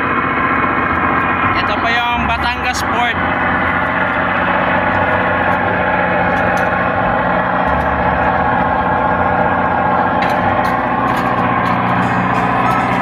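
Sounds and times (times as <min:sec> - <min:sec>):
ship engines idling: 0:00.0 - 0:13.0.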